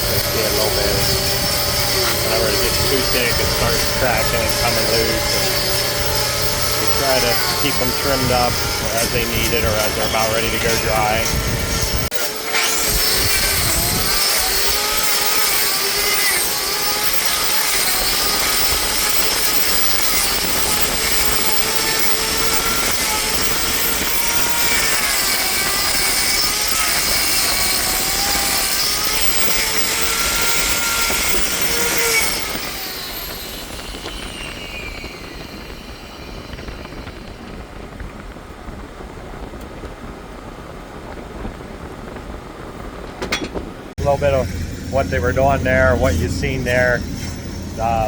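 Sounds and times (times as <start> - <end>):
angle grinder grinding hoof: 0.0 - 38.3, 43.2 - 48.0.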